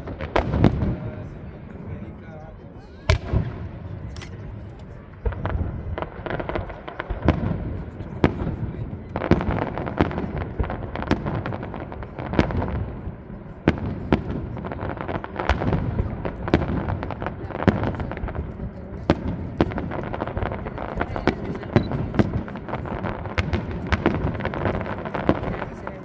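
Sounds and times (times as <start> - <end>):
firework bangs and crackles: 0.0 - 26.0.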